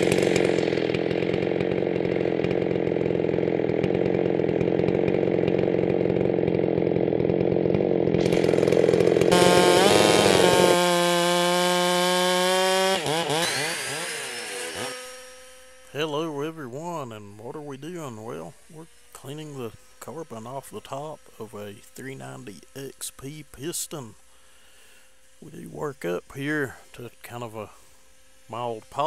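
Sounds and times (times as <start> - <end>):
chainsaw running at high revs: 0.0 - 29.0.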